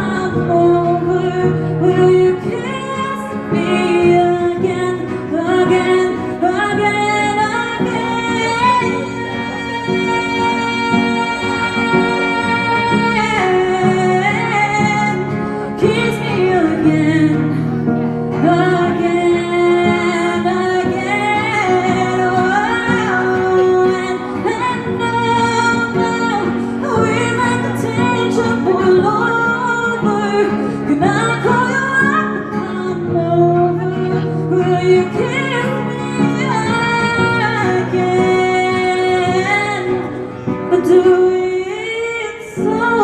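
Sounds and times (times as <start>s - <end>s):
woman singing pop song: 0.0s - 43.0s.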